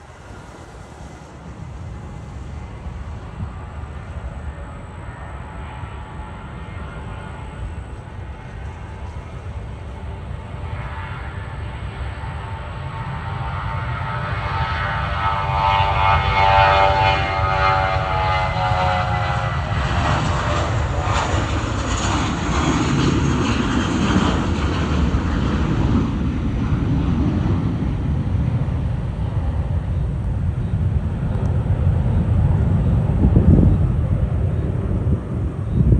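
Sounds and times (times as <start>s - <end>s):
deep jet rumble: 0.0s - 35.9s
jet airliner passing: 0.0s - 35.9s.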